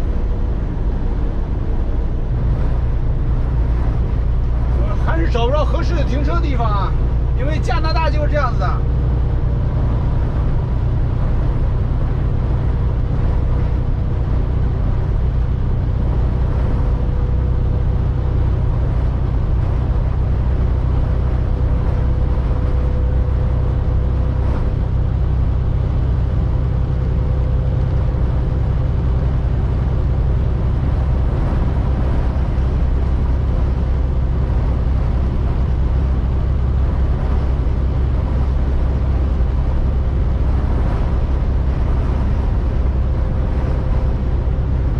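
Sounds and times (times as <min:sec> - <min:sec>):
truck engine and road rumble: 0:00.0 - 0:44.9
wind rushing: 0:00.0 - 0:44.9.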